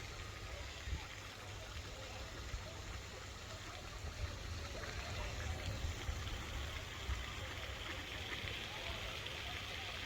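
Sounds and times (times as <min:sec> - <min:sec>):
running water trickling: 0:00.0 - 0:10.0.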